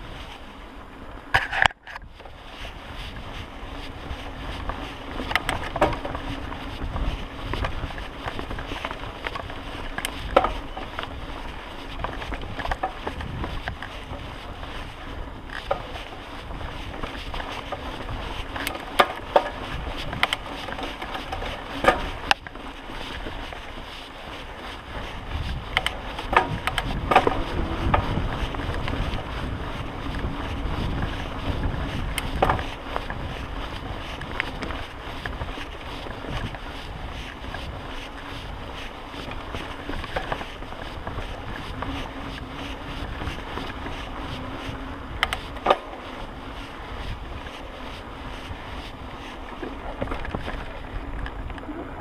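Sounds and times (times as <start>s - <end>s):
bike rattling and clanking: 0.0s - 52.0s
bike tyres rumbling on dirt: 0.0s - 52.0s
wind on microphone: 0.0s - 52.0s.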